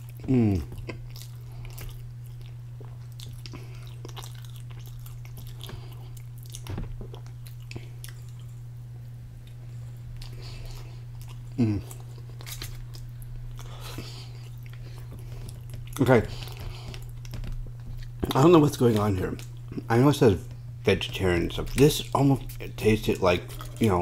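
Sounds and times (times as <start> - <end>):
person chewing: 0.0 - 8.8, 9.4 - 19.9, 20.5 - 24.0.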